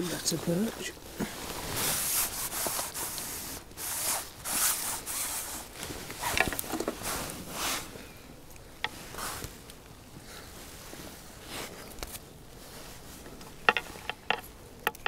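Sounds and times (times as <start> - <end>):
rustling and rubbing: 0.0 - 14.6.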